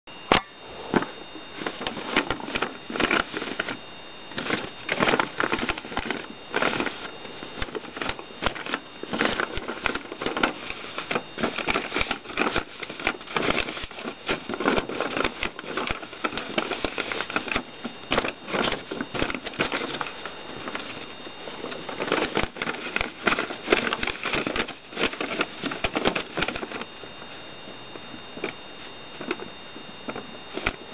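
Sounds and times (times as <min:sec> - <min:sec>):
paper crinkling and rustling: 0:00.9 - 0:30.9.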